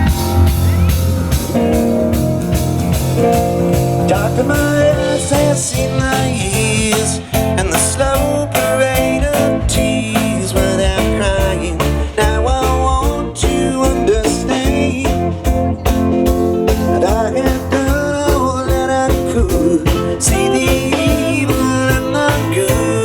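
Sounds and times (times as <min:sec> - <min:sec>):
guitar: 0:00.0 - 0:23.0
live band playing: 0:00.0 - 0:23.0.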